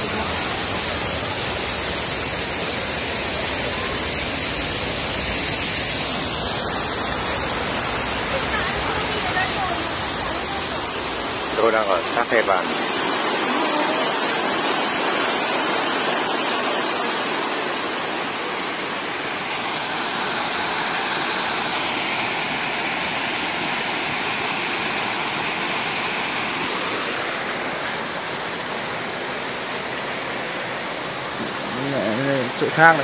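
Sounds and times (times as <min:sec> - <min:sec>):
waterfall rushing over boulders: 0:00.0 - 0:33.0.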